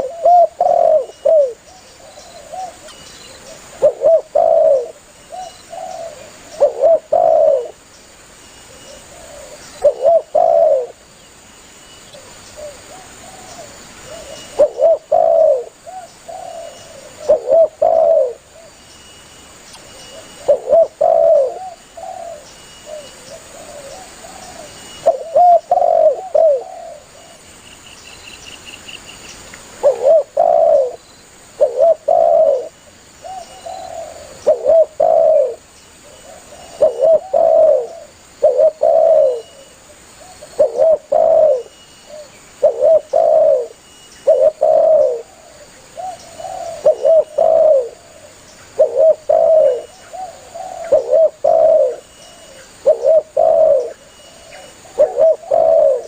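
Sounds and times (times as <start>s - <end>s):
dove cooing: 0.0s - 7.8s, 8.7s - 11.0s, 12.1s - 18.8s, 19.9s - 27.4s, 29.8s - 56.0s.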